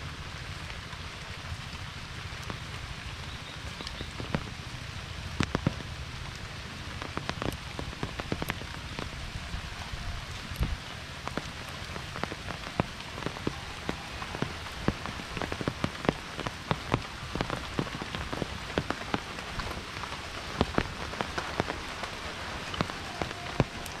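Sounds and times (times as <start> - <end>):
heavy rain hissing: 0.0 - 24.0
raindrops tapping: 0.0 - 24.0.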